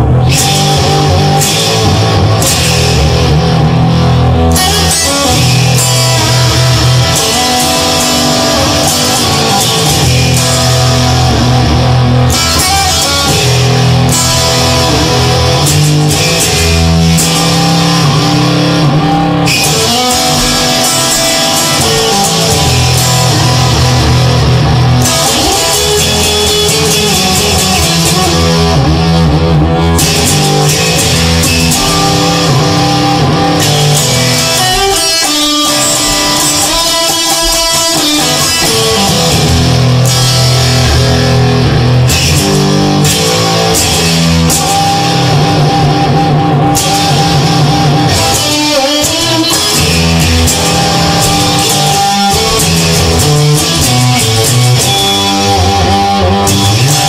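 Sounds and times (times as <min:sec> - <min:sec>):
instrumental rock music: 0:00.0 - 0:57.0.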